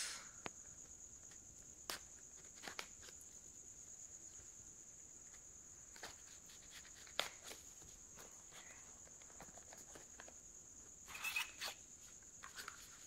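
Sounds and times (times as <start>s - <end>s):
faint high-pitched whine: 0.0s - 13.0s.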